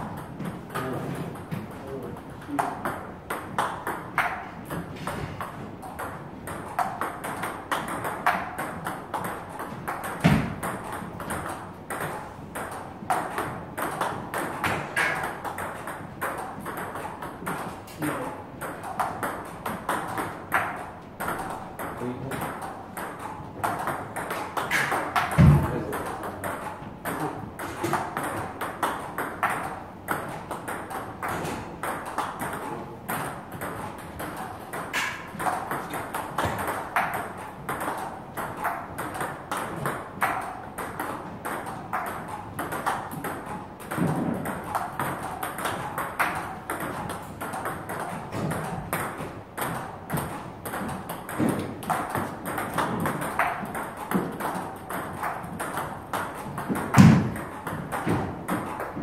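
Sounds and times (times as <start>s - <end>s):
table tennis ball clicking: 2.4s - 59.0s.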